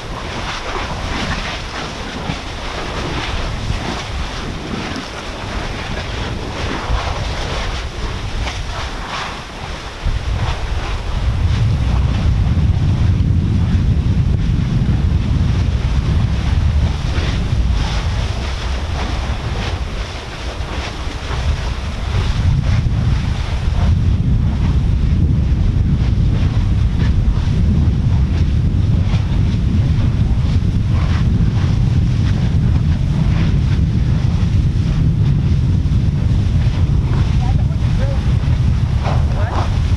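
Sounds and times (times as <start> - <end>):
lava lake churning: 0.0 - 39.9
wind buffeting microphone: 0.0 - 39.9.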